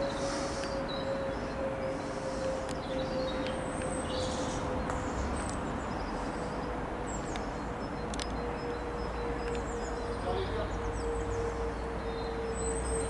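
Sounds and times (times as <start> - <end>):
jet airliner passing overhead: 0.0 - 13.0
small birds chirping: 0.0 - 13.0.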